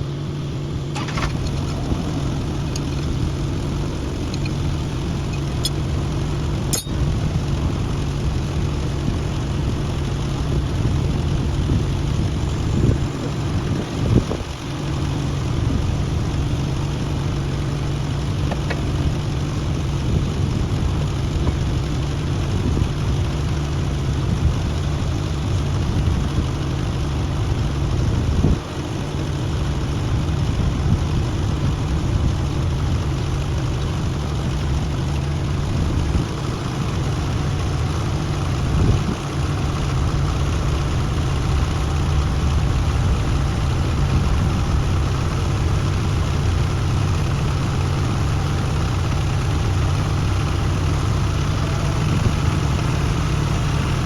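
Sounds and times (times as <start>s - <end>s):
heavy diesel engine idling: 0.0s - 54.0s.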